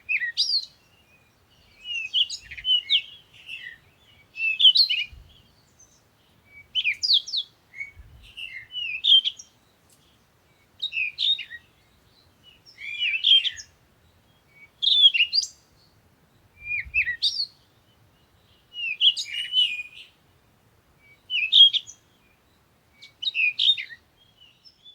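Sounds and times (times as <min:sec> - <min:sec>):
songbird twittering: 0:00.0 - 0:20.2, 0:21.0 - 0:24.9.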